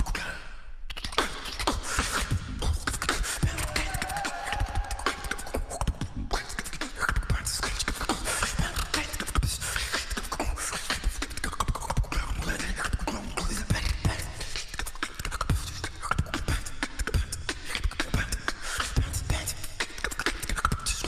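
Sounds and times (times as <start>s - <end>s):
beatboxing: 0.0s - 21.0s.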